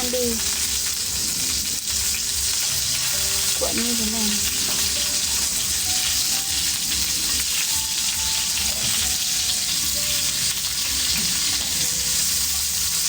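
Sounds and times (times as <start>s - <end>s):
meat sizzling over wood fire: 0.0s - 13.0s.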